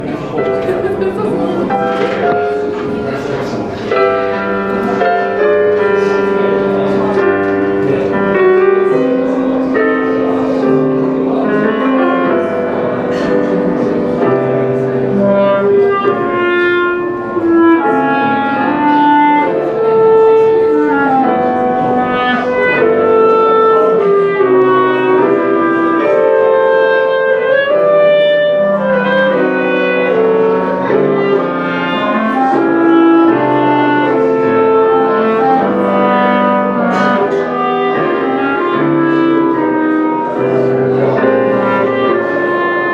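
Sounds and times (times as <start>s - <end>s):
piano accompaniment: 0.0s - 42.9s
clarinets playing a melody: 0.8s - 42.9s.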